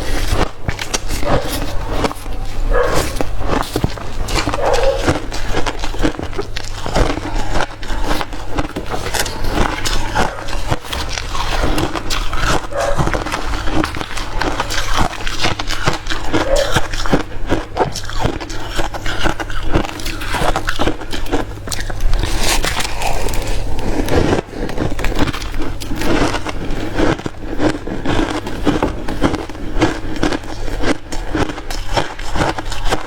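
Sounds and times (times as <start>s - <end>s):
ice being chewed: 0.0s - 33.0s.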